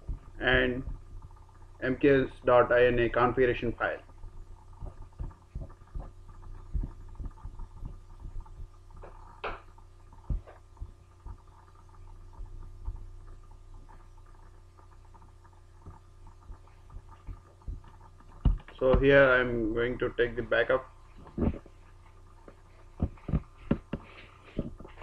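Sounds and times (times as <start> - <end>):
soft low thumps: 0.0 - 1.8, 4.0 - 19.4, 21.1 - 25.0
low electrical hum: 0.0 - 25.0.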